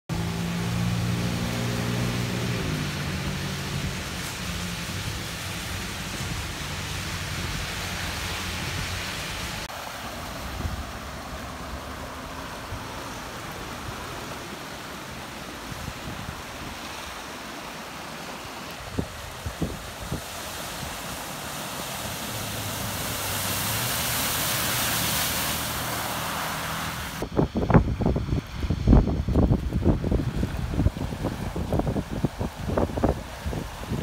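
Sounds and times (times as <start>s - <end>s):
rain on a car: 0.1s - 34.0s
rushing floodwater: 0.1s - 34.0s.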